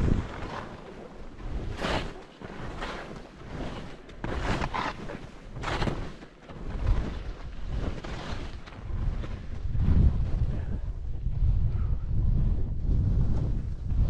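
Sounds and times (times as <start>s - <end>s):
skis scraping through snow: 0.0s - 11.5s
wind rumble on microphone: 0.0s - 14.0s.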